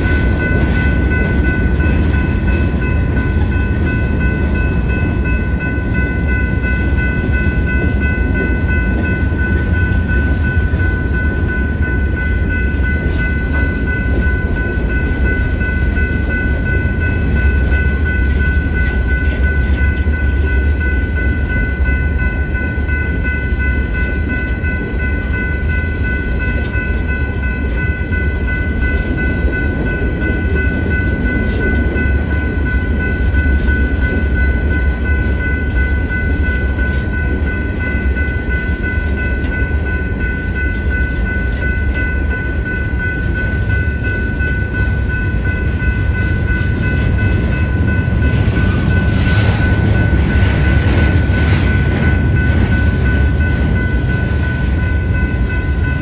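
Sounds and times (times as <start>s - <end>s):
crossing bell ringing: 0.0s - 56.0s
train wheels rumbling on rail: 0.0s - 56.0s.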